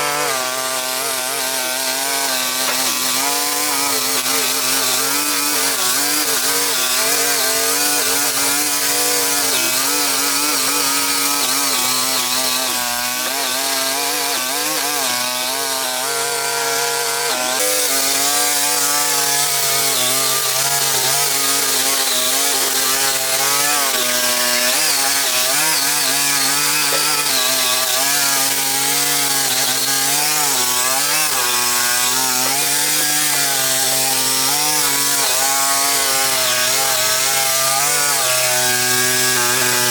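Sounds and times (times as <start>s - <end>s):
small engine power tool running: 0.0s - 39.9s.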